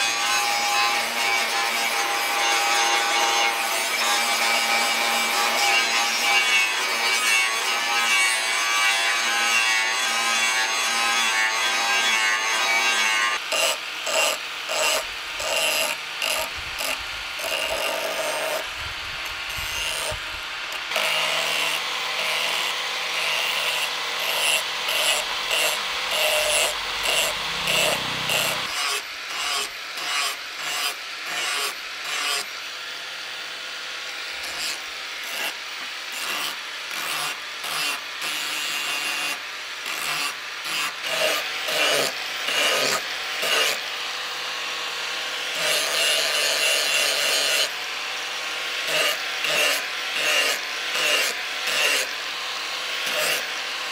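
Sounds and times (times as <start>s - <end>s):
angle grinder grinding steel: 0.0s - 53.9s.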